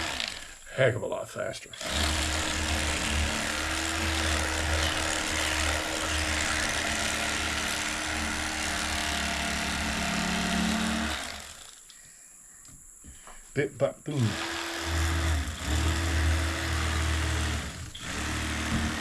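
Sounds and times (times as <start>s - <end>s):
electric knife motor humming: 0.0s - 0.6s, 1.8s - 11.9s, 14.2s - 19.0s.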